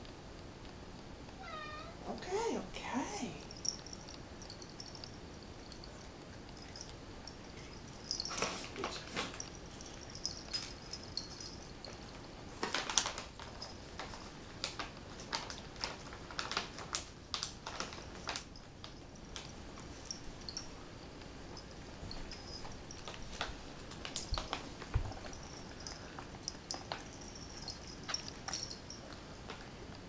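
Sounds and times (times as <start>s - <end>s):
cats crunching food: 0.0s - 1.6s, 3.4s - 30.0s.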